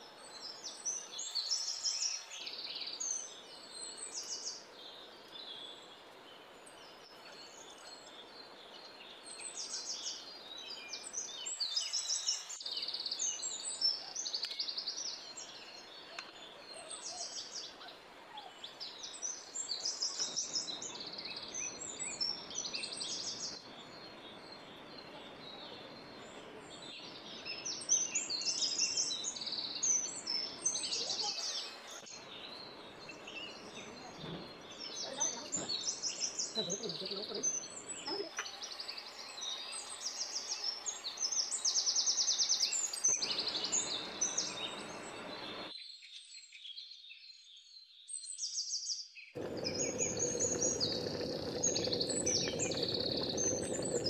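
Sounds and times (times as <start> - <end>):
small birds chirping and trilling: 0.0 - 54.0.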